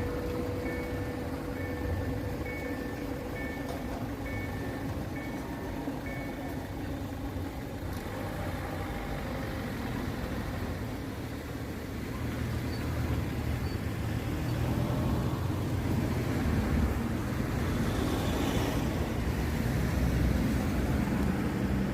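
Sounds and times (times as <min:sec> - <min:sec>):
vehicle engines rumbling: 0:00.0 - 0:21.9.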